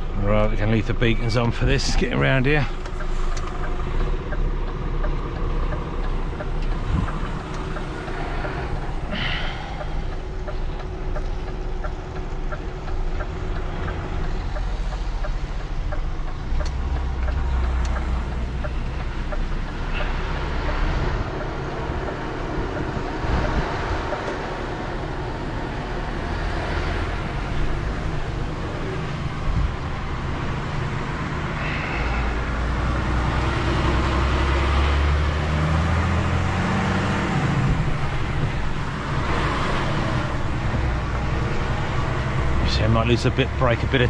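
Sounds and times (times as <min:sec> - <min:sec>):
diesel engine rumbling: 0:00.0 - 0:44.0
road noise: 0:00.0 - 0:44.0.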